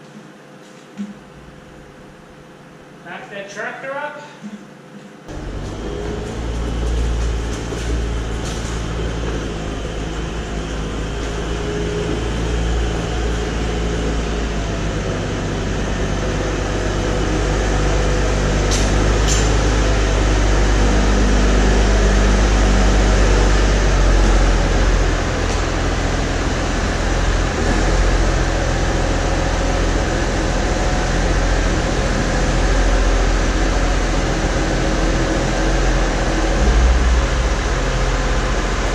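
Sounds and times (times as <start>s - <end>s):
tractor engine running: 5.3s - 38.9s.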